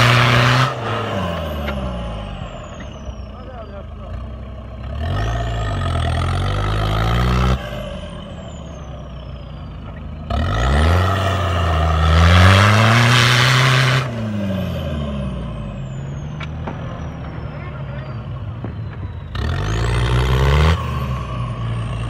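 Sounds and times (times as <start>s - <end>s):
diesel engine revving hard: 0.0s - 22.0s.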